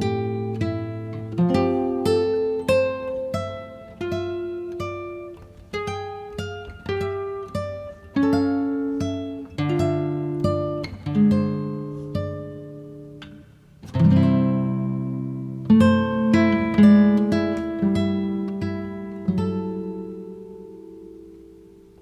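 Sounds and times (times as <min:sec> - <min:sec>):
plucked string notes: 0:00.0 - 0:22.0.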